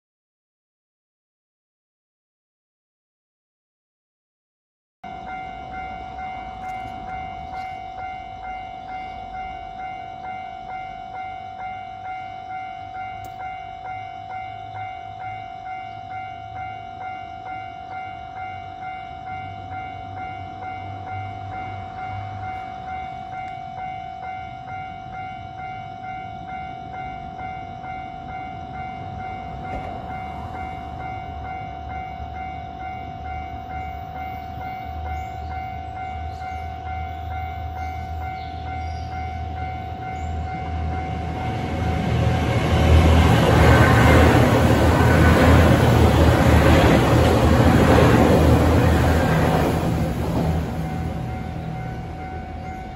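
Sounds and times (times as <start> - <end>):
level crossing alarm ringing: 5.0 - 52.9.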